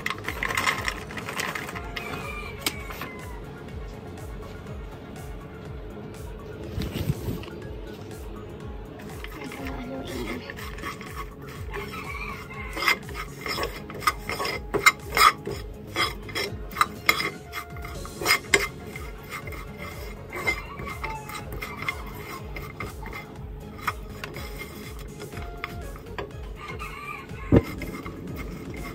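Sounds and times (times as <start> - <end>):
metal spoon scraping frying pan: 0.0 - 3.4, 9.0 - 28.9.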